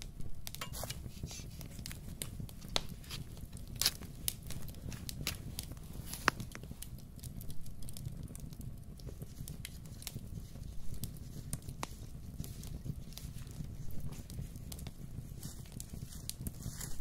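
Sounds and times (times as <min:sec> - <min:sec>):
small clicks and crinkles: 0:00.0 - 0:17.0.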